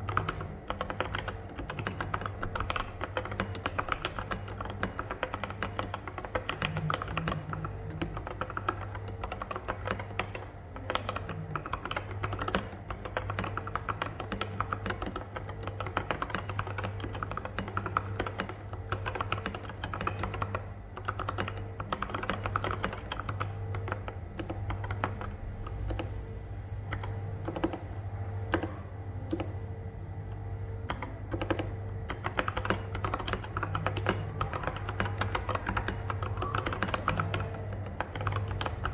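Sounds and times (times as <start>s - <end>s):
fast mechanical keyboard typing: 0.0s - 26.2s, 26.9s - 29.5s, 30.8s - 38.9s.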